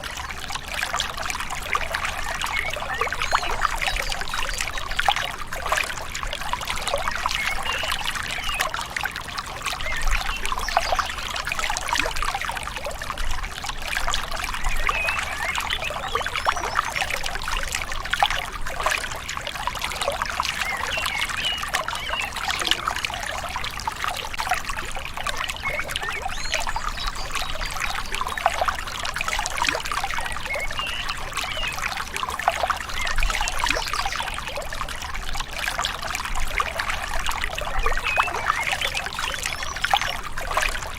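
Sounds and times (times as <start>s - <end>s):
river water trickling and gurgling: 0.0s - 40.9s.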